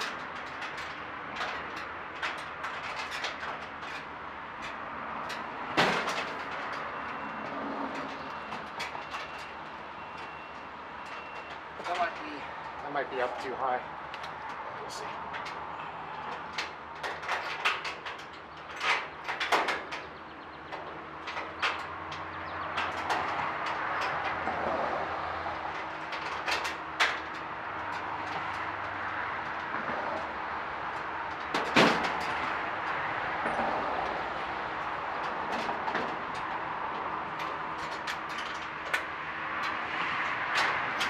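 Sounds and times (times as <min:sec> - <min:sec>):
knocks and clanks of work: 0:00.0 - 0:13.6, 0:14.2 - 0:41.0.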